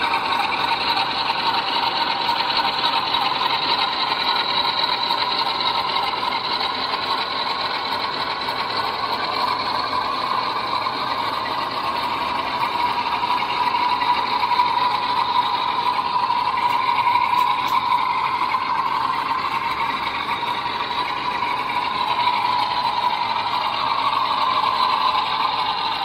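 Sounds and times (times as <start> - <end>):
model locomotive engine sound: 0.0 - 26.0
model train wheels on track: 0.0 - 26.0.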